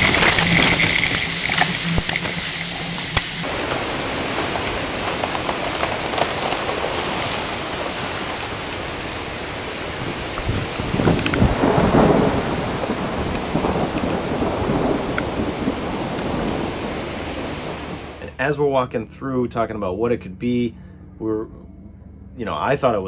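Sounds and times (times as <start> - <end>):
violent wind: 0.0 - 18.8
heavy rain: 0.0 - 19.0.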